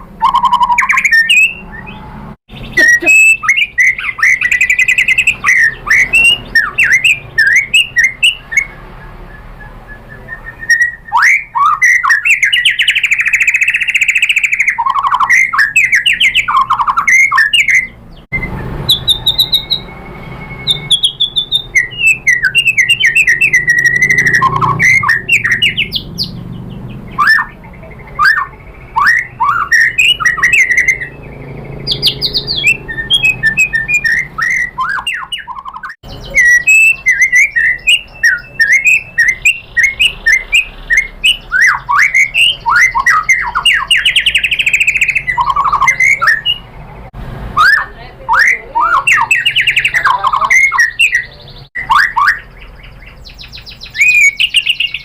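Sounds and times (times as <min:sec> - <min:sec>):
songbird whistling and chattering: 0:00.0 - 0:55.0.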